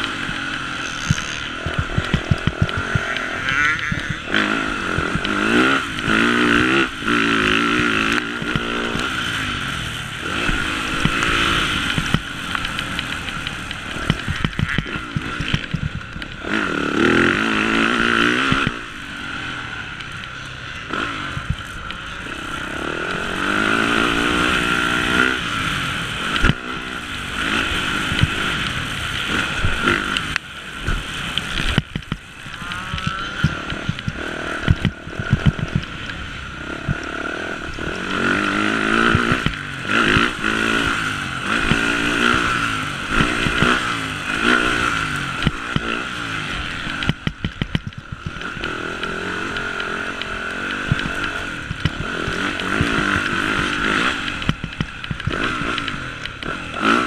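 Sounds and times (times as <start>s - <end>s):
bike knocks and rattles: 0.0s - 9.2s, 10.3s - 18.9s, 27.4s - 50.0s, 50.6s - 57.0s
dirt bike engine revving: 0.0s - 57.0s.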